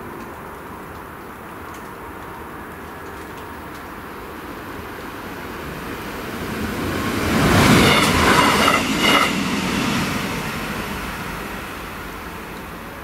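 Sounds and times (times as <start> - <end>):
diesel train passing: 0.0 - 13.0.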